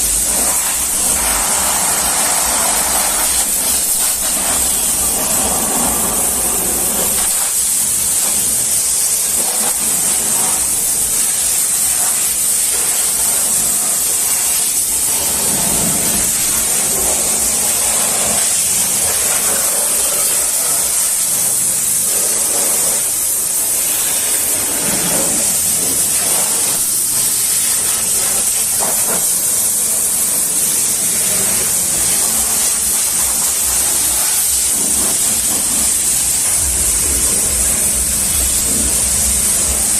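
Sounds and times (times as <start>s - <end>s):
pressure washer spraying water: 0.0s - 39.9s.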